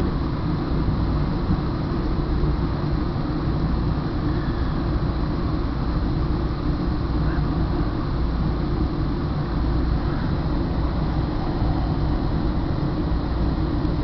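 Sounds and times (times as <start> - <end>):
train rumbling from inside: 0.0 - 14.0.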